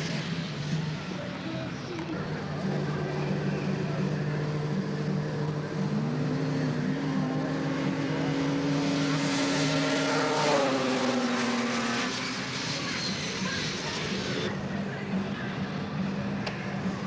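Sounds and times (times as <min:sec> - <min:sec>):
snowmobile engines running: 0:00.0 - 0:17.0.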